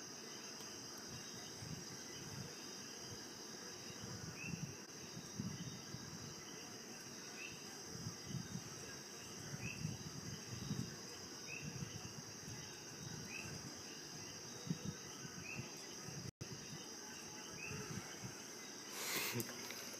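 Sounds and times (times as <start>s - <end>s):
night insects trilling: 0.0s - 19.9s.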